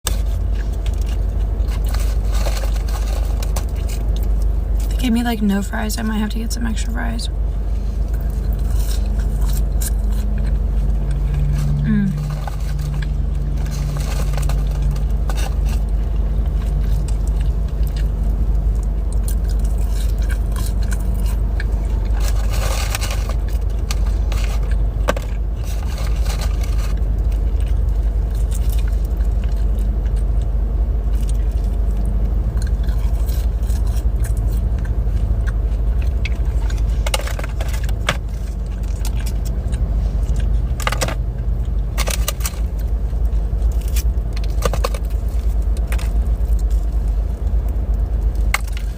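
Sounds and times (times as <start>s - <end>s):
chewing: 0.1s - 5.0s, 7.6s - 48.9s.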